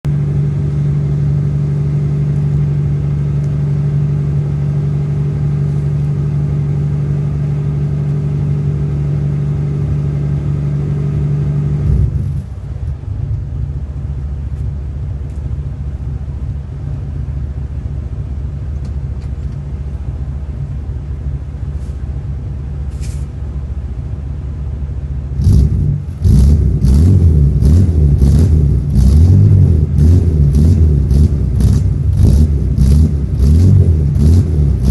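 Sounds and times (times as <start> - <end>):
car engine running and revving: 0.0 - 34.9.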